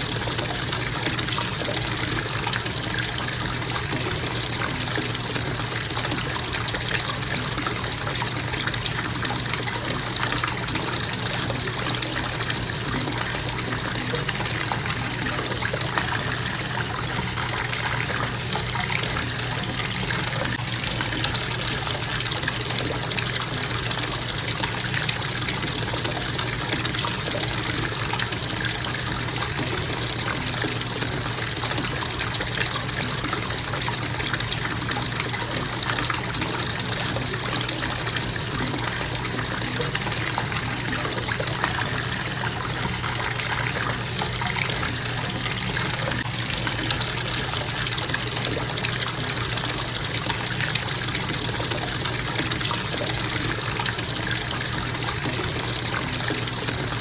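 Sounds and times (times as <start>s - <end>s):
faucet water pouring into tub: 0.0s - 57.0s.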